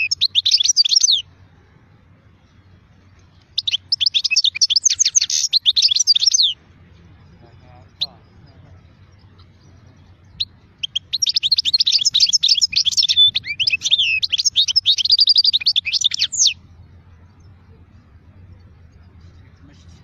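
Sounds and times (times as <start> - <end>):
goldfinch singing: 0.0 - 1.4, 2.4 - 20.0.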